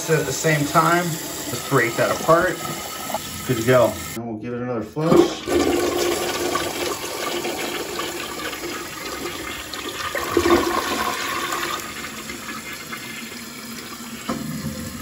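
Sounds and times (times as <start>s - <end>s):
toilet flushing: 0.0s - 4.2s, 5.0s - 15.0s.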